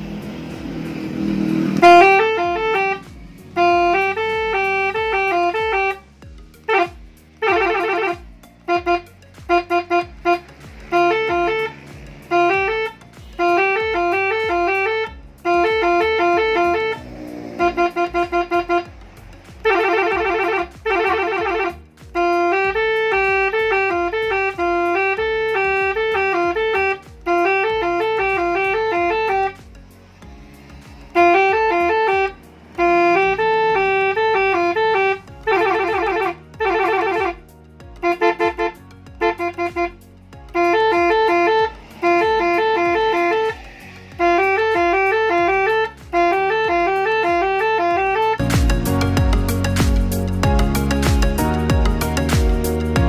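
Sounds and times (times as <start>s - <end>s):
multi-trumpet air horn tunes: 0.0s - 53.0s.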